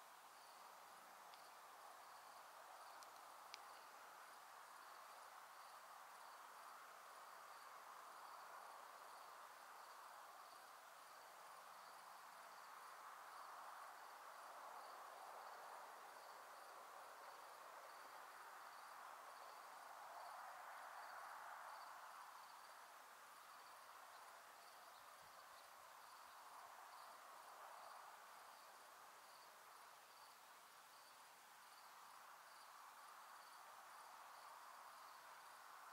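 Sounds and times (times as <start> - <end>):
cricket chirping: 0.0 - 35.9
soft steady rush: 0.0 - 35.9.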